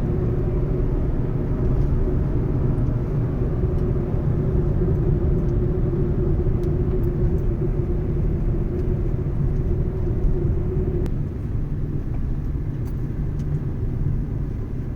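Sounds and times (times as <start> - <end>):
car engine and tyres rumbling: 0.0 - 14.9.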